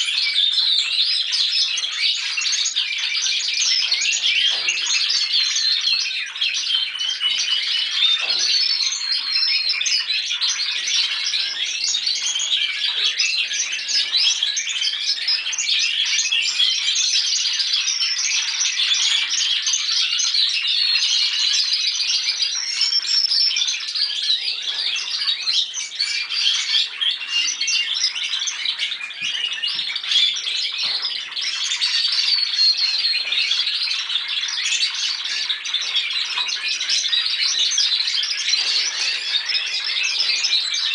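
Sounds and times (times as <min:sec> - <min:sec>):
canaries trilling in chorus: 0:00.0 - 0:40.9.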